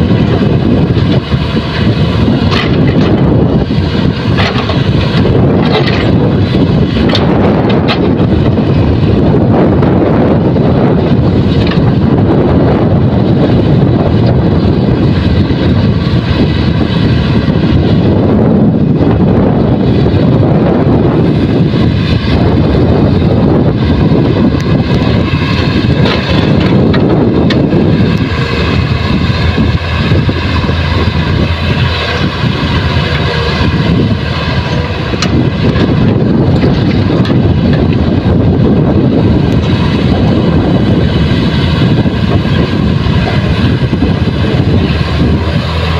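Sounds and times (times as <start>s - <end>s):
heavy diesel engines running: 0.0s - 45.9s.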